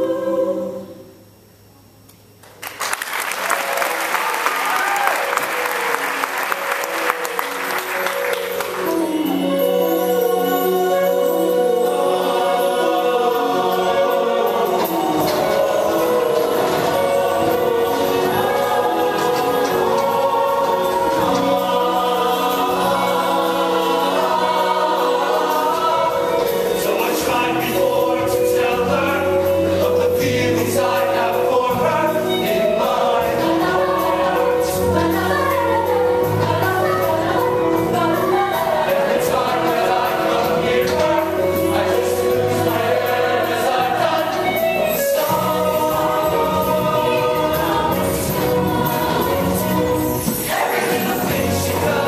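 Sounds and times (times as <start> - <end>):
choir singing in harmony: 0.0 - 1.4, 3.7 - 52.0.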